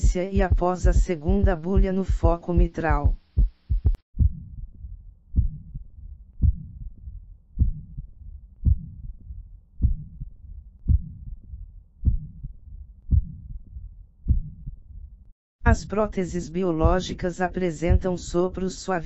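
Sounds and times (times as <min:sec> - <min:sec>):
heartbeat thumps: 0:00.0 - 0:15.0, 0:15.7 - 0:16.0, 0:16.7 - 0:18.6
steady low rumble: 0:00.0 - 0:18.4.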